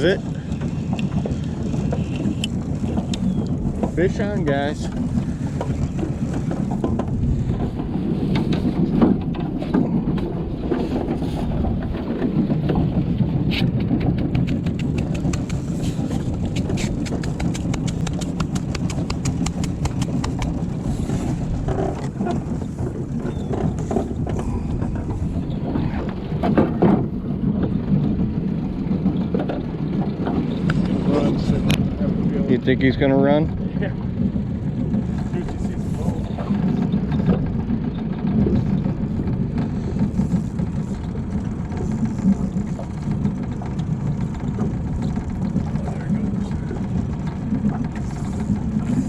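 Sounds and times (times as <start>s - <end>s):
boat motor running: 0.0s - 49.0s
water noise: 0.0s - 49.0s
wind: 0.0s - 49.0s.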